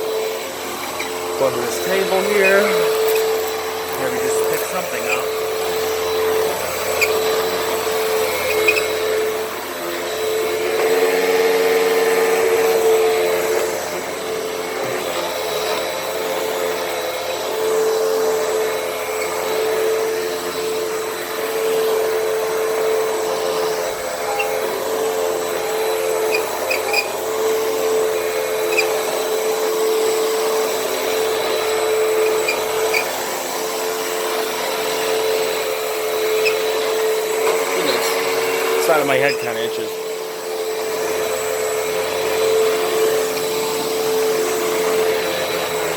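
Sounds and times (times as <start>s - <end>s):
vacuum cleaner running on carpet: 0.0s - 45.9s.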